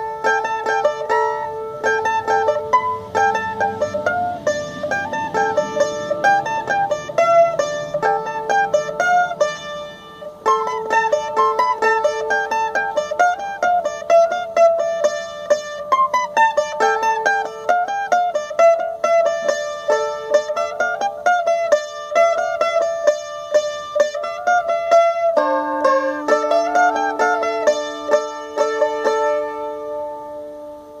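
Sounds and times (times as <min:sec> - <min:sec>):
mandolin melody: 0:00.0 - 0:31.0.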